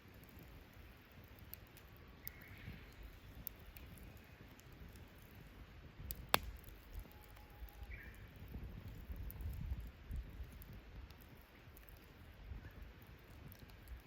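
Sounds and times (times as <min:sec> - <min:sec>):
campfire wood crackling: 0:00.0 - 0:14.0.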